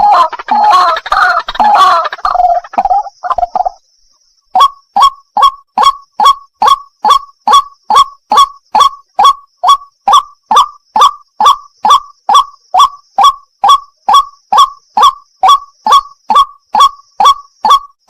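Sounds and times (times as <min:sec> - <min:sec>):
waterhen calling: 0:00.0 - 0:03.8, 0:04.6 - 0:17.9.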